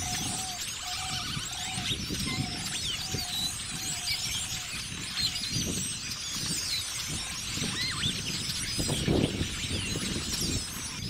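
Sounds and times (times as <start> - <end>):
blackbirds chirping and whistling: 0.0 - 11.0.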